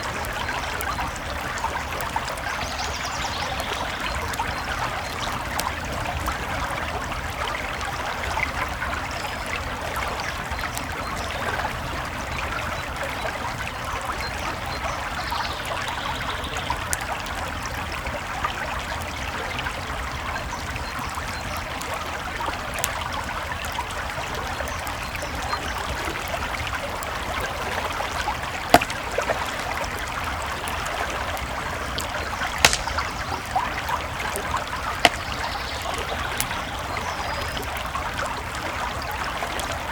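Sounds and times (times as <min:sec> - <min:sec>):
campfire crackling and popping: 0:00.0 - 0:39.9
creek water flowing: 0:00.0 - 0:39.9.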